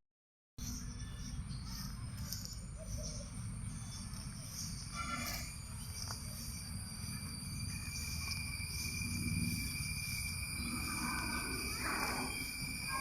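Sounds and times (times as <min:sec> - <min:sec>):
insects chirping: 0:00.6 - 0:13.0.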